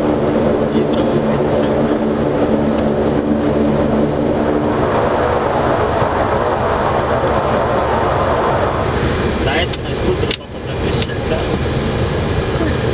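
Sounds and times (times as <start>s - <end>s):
turboprop engine rumble and rush: 0.0s - 12.9s.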